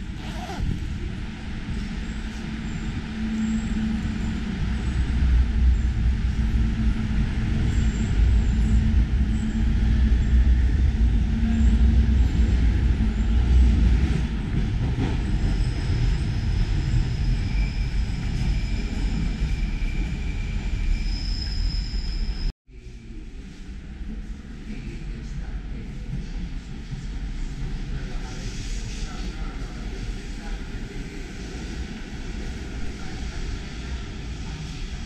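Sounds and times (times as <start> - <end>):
deep rumble of metro station: 0.0 - 35.0.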